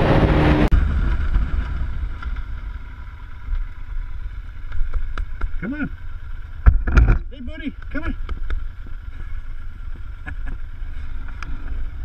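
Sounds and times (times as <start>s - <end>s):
highway wind and engine noise: 0.0s - 12.0s
motorcycle engine idling: 0.8s - 12.0s.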